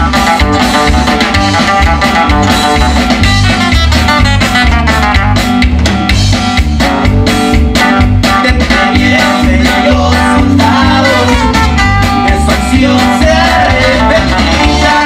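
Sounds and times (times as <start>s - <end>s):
live band instrumental: 0.0s - 15.0s.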